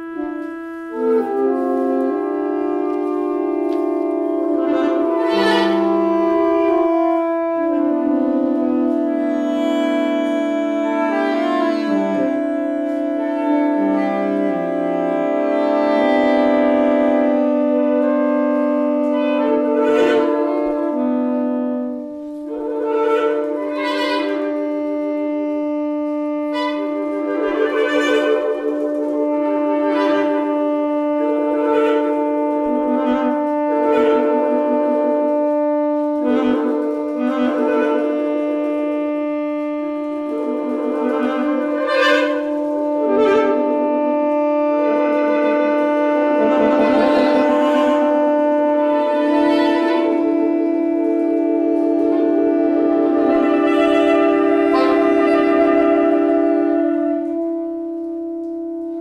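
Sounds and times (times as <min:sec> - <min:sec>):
saxophone ensemble playing: 0:00.0 - 0:59.0.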